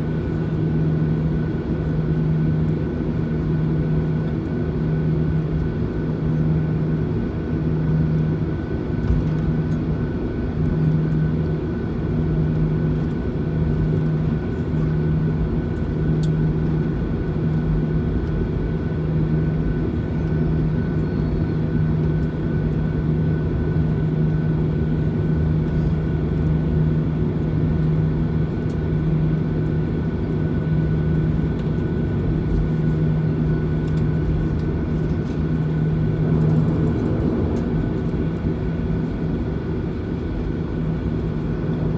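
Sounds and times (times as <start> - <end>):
aircraft cabin rumble: 0.0 - 41.9
pulsing low engine hum: 0.0 - 41.9.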